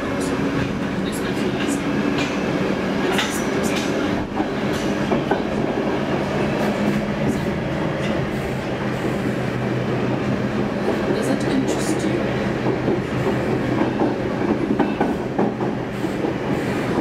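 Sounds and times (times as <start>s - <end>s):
subway car rumble and hum: 0.0s - 17.0s.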